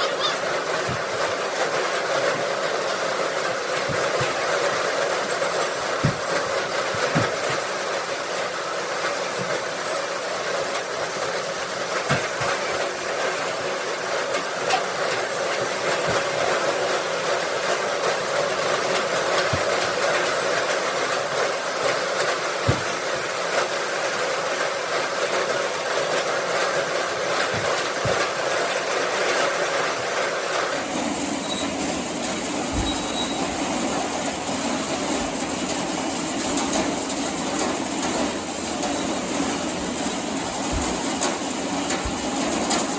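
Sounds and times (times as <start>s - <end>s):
tractor machinery running: 0.0s - 42.9s
knocks and clatter: 0.4s - 30.8s, 31.8s - 42.9s.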